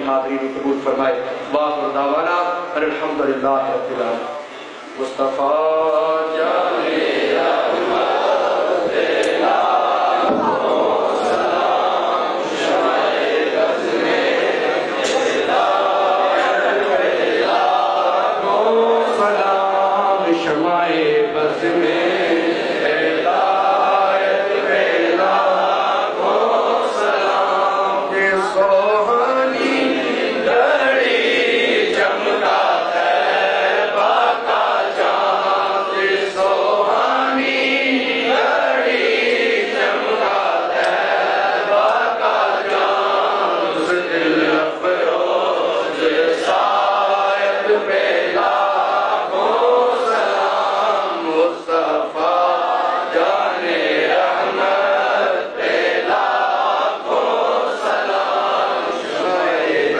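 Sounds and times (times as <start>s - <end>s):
men chanting: 5.0s - 59.9s.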